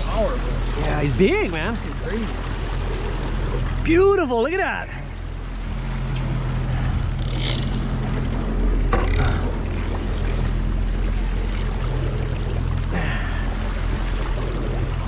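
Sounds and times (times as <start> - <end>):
boat engine idling: 0.0 - 15.0
wind and water hiss: 0.0 - 15.0.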